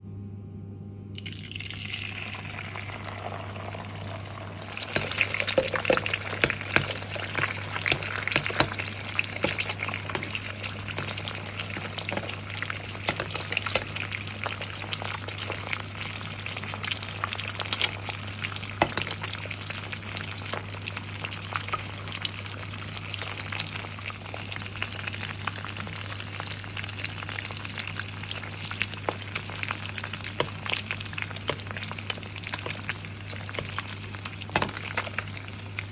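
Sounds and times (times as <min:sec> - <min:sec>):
eggs sizzling in a pan: 0:01.2 - 0:35.9.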